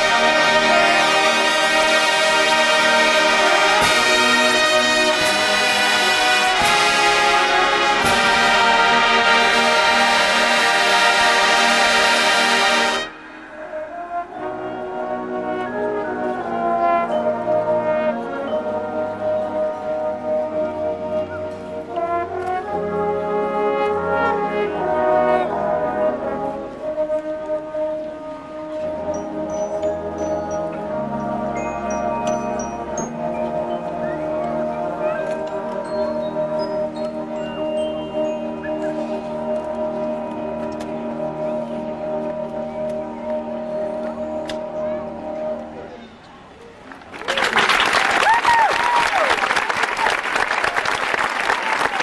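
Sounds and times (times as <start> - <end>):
brass section playing chords: 0.0 - 46.0.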